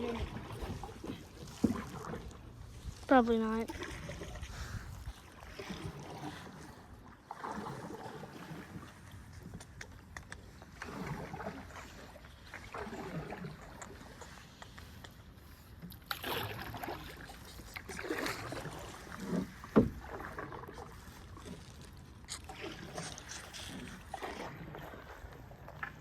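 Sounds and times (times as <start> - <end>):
paddles swishing through water: 0.0 - 26.0.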